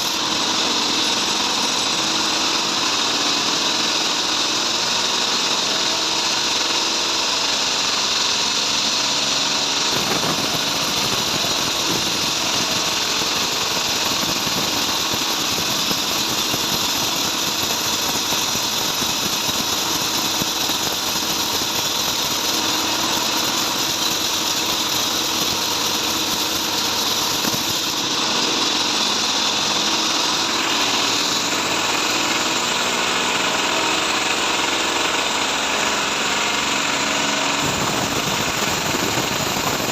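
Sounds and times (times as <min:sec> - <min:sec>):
bandsaw sawing wood: 0:00.0 - 0:39.9.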